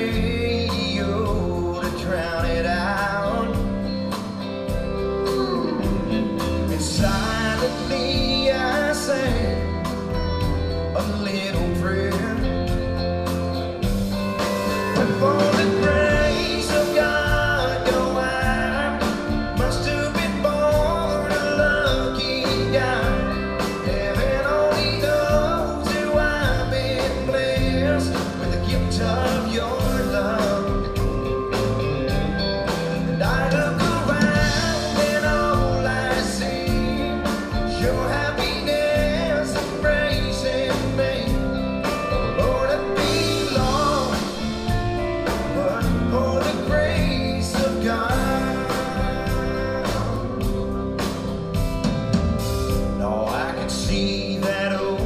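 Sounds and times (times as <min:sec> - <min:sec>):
man singing: 0:00.0 - 0:51.6, 0:52.6 - 0:55.0
live country band playing: 0:00.0 - 0:55.0.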